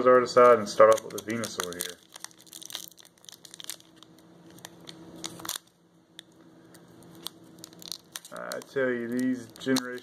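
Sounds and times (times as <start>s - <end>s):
foil pack crinkling and tearing: 0.5s - 5.7s, 7.0s - 10.0s.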